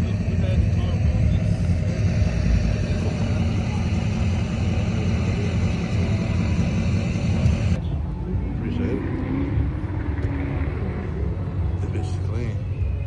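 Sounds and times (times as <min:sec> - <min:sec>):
car engines running: 0:00.0 - 0:13.0.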